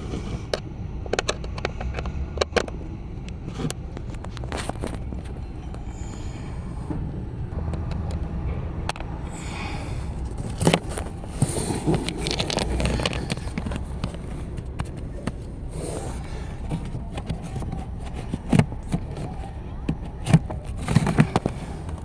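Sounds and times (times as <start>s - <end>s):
steady low rumble: 0.0s - 22.0s
rustling and scraping: 3.4s - 22.0s.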